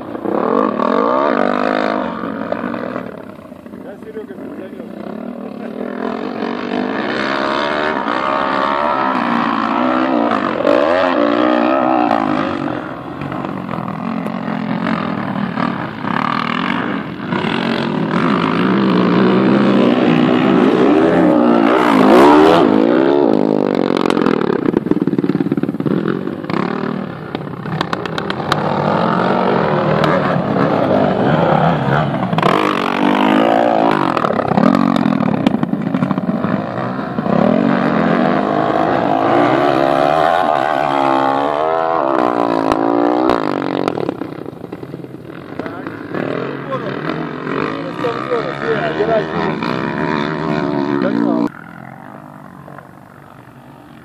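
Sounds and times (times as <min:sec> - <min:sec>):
dirt bike engines revving: 0:00.0 - 0:54.0
dirt bikes passing close by: 0:00.0 - 0:54.0.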